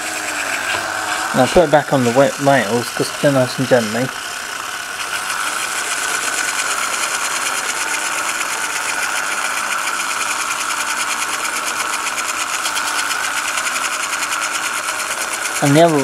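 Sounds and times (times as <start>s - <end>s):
electric motor whine: 0.0s - 16.0s
rapid fine ticking: 0.0s - 16.0s.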